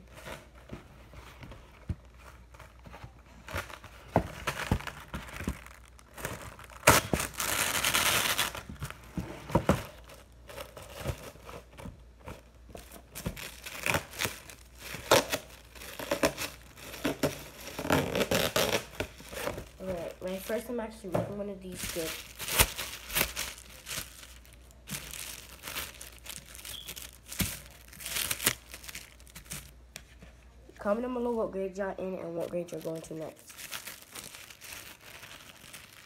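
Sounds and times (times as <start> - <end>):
plastic wrap crinkling: 0.0 - 36.0
plastic wrap ripping: 2.1 - 21.0, 21.6 - 29.8, 32.7 - 36.0.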